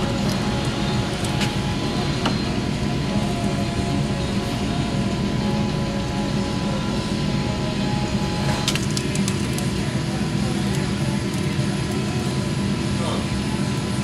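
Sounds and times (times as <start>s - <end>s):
loud steady drone: 0.0s - 14.0s.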